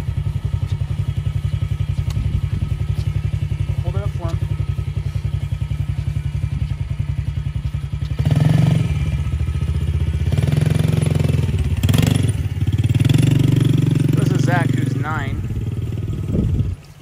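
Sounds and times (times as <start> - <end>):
motorbike engine revving: 0.0 - 16.9.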